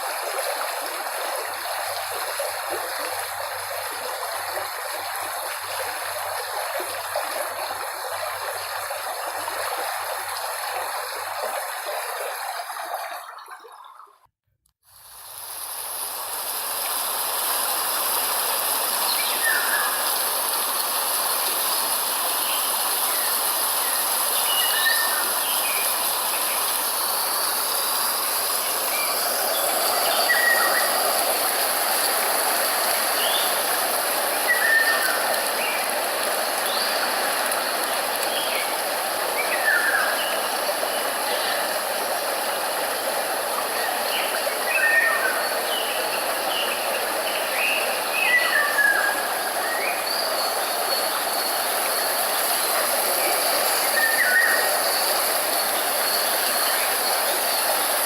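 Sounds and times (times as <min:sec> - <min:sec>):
stream running: 0:00.0 - 0:58.0.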